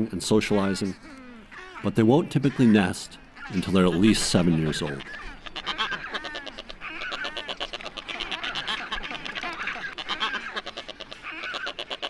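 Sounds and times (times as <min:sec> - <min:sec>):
seabird and penguin colony calling: 0:00.0 - 0:12.0.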